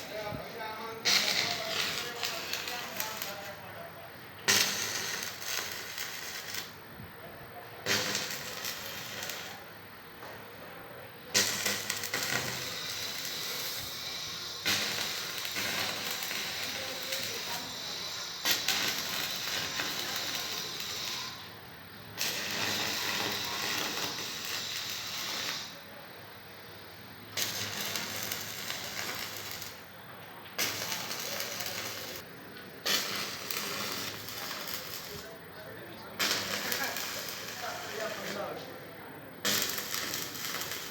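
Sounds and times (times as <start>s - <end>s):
arc welding crackling hiss: 0.0s - 3.7s, 4.4s - 6.8s, 7.8s - 9.8s, 11.3s - 21.5s, 22.1s - 26.0s, 26.8s - 29.9s, 30.5s - 35.4s, 36.1s - 38.8s, 39.4s - 40.9s.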